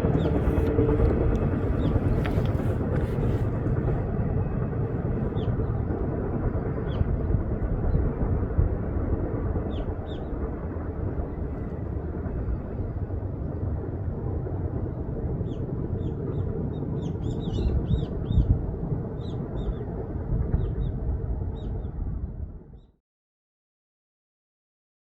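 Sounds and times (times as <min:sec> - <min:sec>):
passing train rumble: 0:00.0 - 0:22.8.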